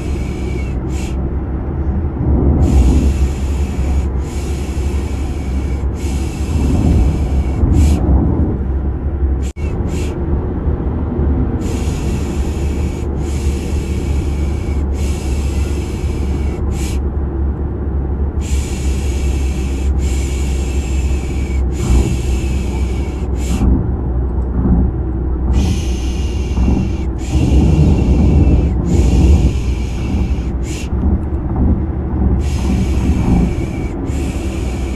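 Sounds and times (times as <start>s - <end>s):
car interior rumble: 0.0s - 34.9s.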